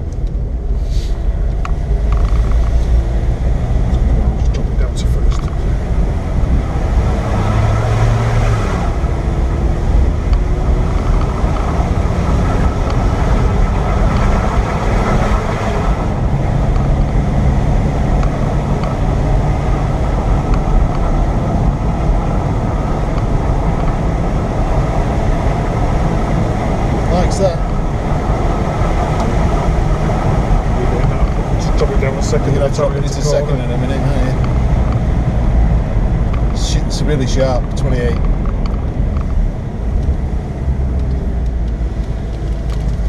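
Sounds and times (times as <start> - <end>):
car engine pulling uphill: 0.0 - 43.0
road and wind noise: 0.0 - 43.0.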